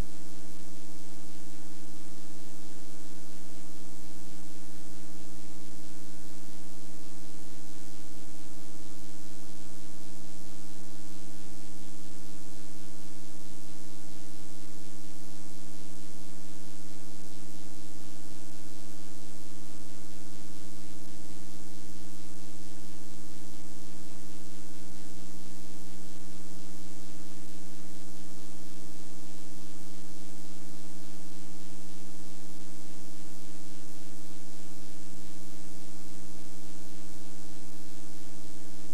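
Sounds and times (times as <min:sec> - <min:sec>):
electrical hum with hiss: 0:00.0 - 0:38.9.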